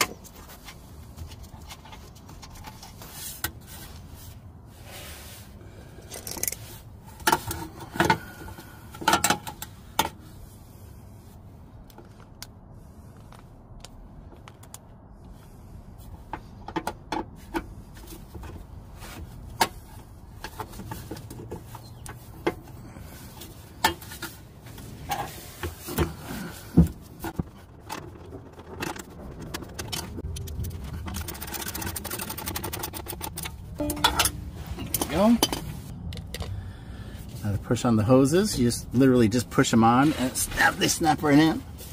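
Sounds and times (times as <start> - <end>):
gloved hands handling parts: 0.0 - 36.6.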